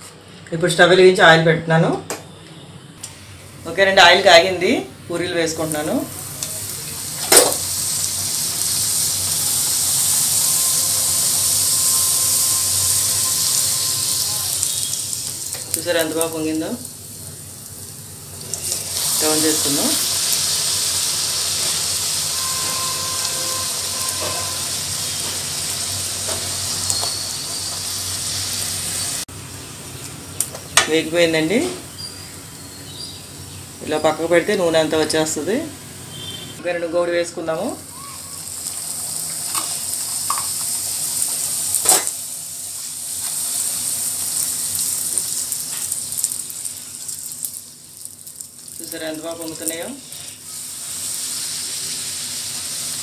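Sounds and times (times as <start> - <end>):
oil sizzling while deep-frying: 3.0 - 53.0.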